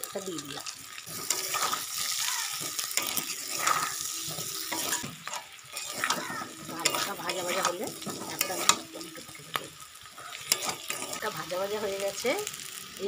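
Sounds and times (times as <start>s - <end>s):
potato sizzling in hot oil: 0.0s - 13.0s
metal spatula scraping pan: 1.0s - 12.0s.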